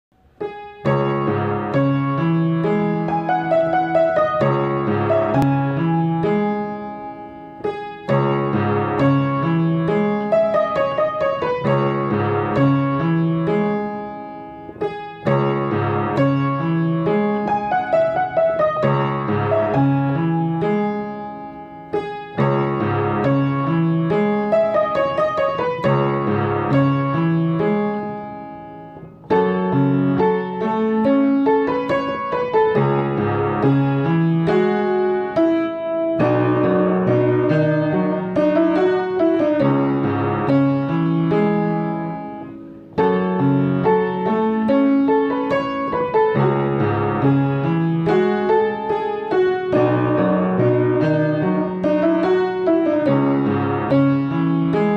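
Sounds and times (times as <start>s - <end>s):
solo piano music: 0.1s - 54.9s.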